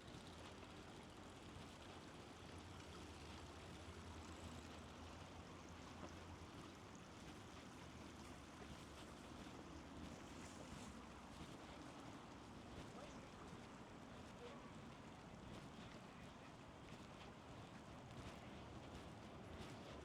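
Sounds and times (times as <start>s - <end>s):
flowing river water: 0.1s - 20.0s.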